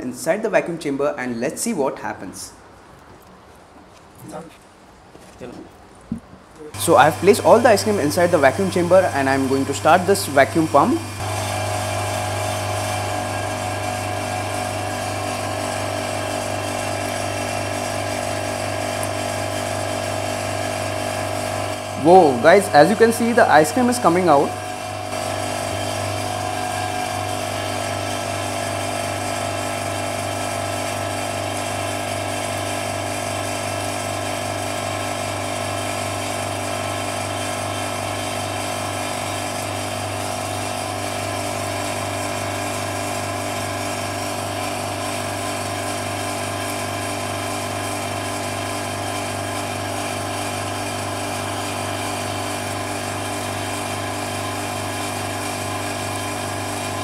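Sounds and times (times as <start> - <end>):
vacuum pump humming: 6.1 - 57.0.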